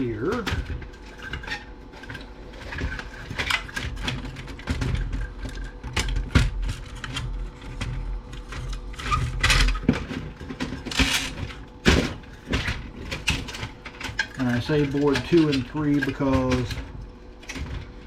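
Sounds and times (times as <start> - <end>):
clicks and rattles of parts handled: 0.1 - 18.0.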